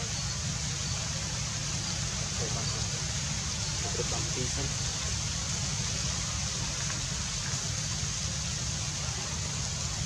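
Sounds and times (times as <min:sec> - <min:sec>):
constant hiss: 0:00.0 - 0:10.0.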